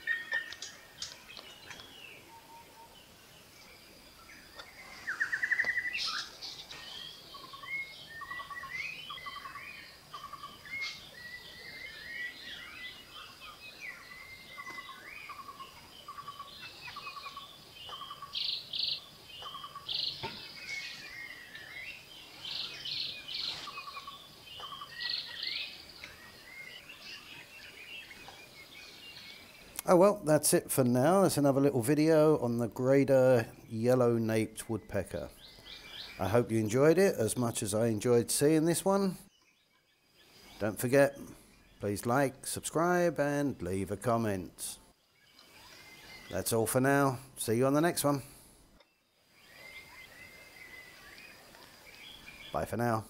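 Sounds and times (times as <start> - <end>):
forest birds chirping and trilling: 0.0 - 53.0.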